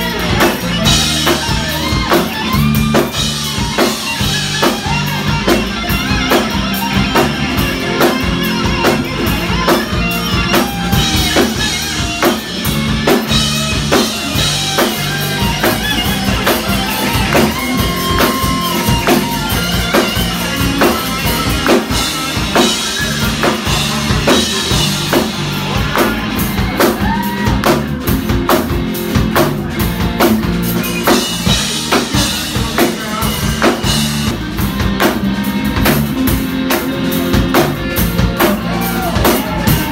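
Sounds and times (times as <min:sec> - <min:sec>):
drum kit steady beat: 0:00.0 - 0:39.9
electric guitar lead with bends: 0:00.0 - 0:39.9.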